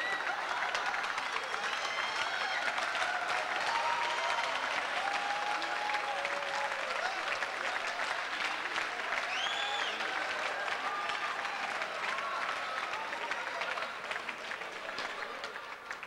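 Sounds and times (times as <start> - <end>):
audience clapping: 0.0 - 16.0.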